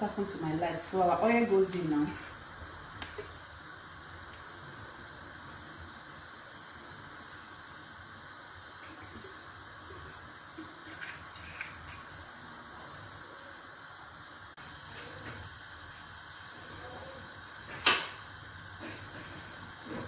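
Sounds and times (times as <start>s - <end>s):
stovetop hiss: 0.0s - 20.0s.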